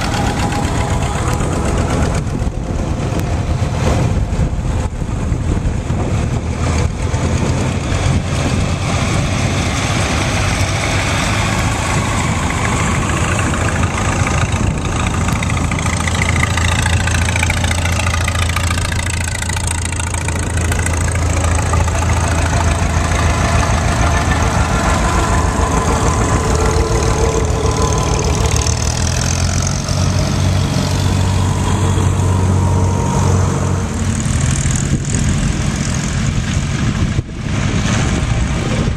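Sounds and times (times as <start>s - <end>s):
tractors driving past: 0.0s - 38.9s.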